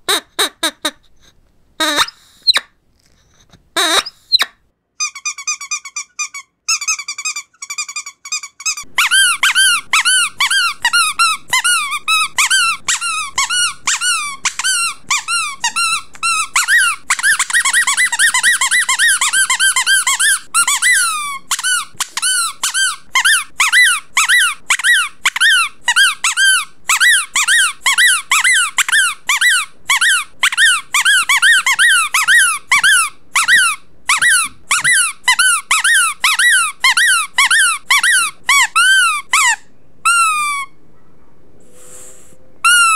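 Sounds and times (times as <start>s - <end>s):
rubber duck toy squeaking: 0.0s - 1.1s, 1.8s - 2.8s, 3.8s - 40.8s, 42.6s - 42.9s.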